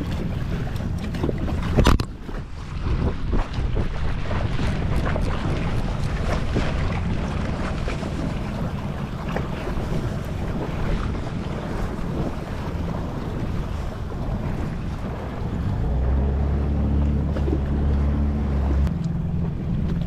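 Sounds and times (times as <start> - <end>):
jet ski engine running: 0.0 - 20.0
water splashing against hull: 0.0 - 20.0
wind buffeting microphone: 0.0 - 20.0.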